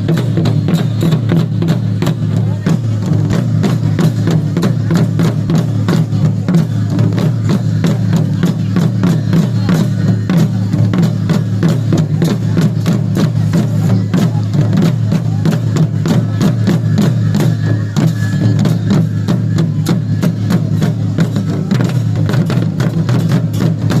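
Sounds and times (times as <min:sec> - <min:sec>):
fast steady drumming: 0:00.0 - 0:24.0
voices: 0:00.0 - 0:24.0.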